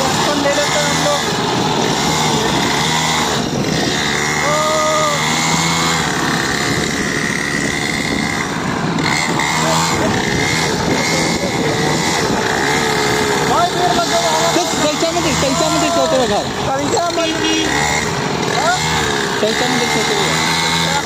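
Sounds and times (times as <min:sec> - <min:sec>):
mini dirt bike engine revving: 0:00.0 - 0:21.0.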